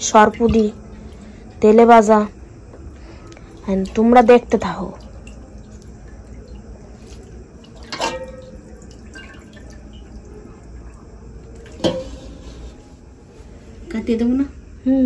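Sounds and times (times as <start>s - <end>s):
water splashing in metal pot: 0.0s - 12.8s.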